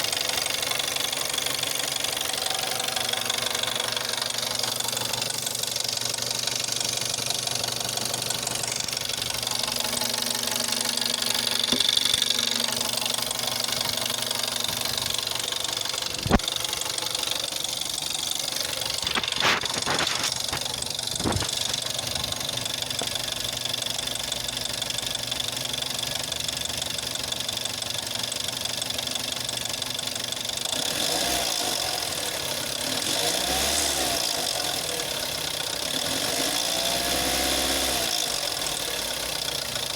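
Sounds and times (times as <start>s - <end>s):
engine knocking and rattling: 0.0s - 39.9s.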